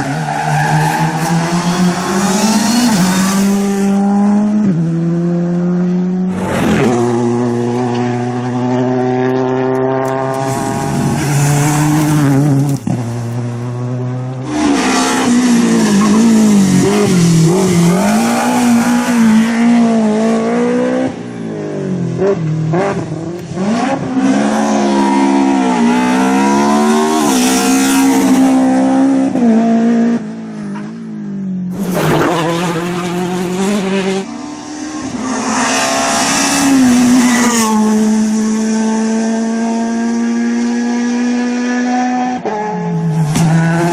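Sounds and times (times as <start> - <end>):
rally car engine revving: 0.0 - 31.0, 31.7 - 43.9.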